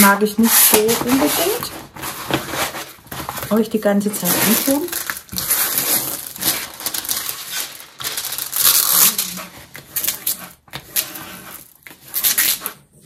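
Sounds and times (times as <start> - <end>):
plastic film crinkling: 0.7 - 13.0.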